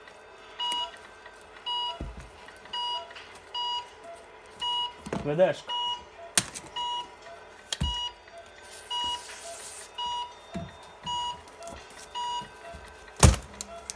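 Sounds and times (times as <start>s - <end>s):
fainter lower beep: 0.6s - 1.0s, 1.7s - 2.0s, 2.7s - 13.9s.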